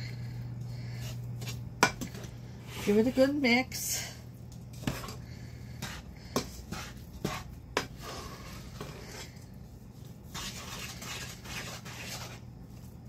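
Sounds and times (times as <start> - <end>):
low steady hum: 0.0 - 13.0
wooden spoon scraping a saucepan: 0.7 - 13.0.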